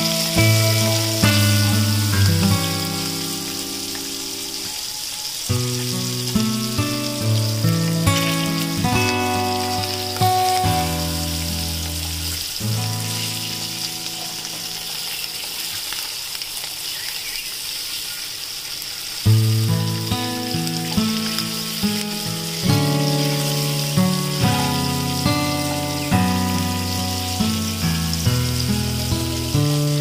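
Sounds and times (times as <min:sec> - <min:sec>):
background music with low notes: 0:00.0 - 0:15.3, 0:19.3 - 0:30.0
hot oil sizzling: 0:00.0 - 0:30.0.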